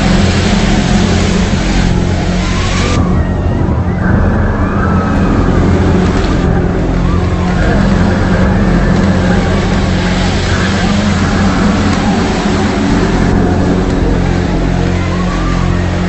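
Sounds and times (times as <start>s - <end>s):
low layered drone: 0.0s - 16.0s.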